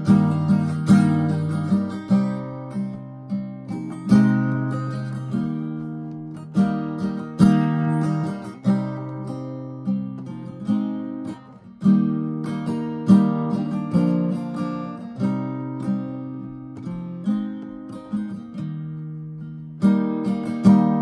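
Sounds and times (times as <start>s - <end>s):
resonator guitar chords: 0.0s - 21.0s.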